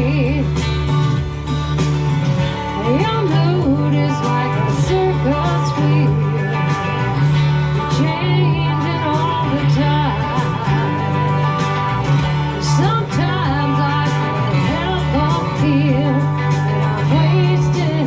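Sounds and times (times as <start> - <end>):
bass line: 0.0 - 18.0
bending lead melody: 0.0 - 18.0.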